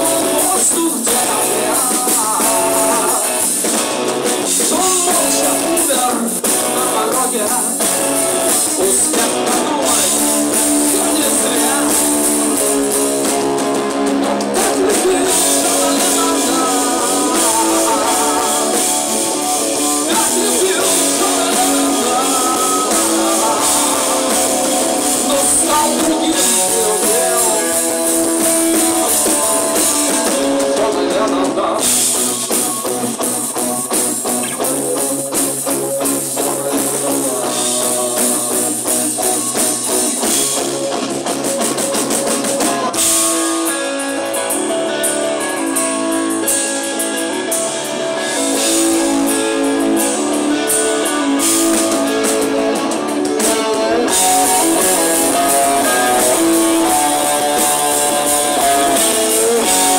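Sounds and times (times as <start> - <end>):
man singing: 0.0 - 33.0, 33.6 - 40.7, 42.4 - 59.9
bass guitar: 0.0 - 59.9
distorted electric guitars: 0.0 - 59.9
drums: 0.0 - 59.9.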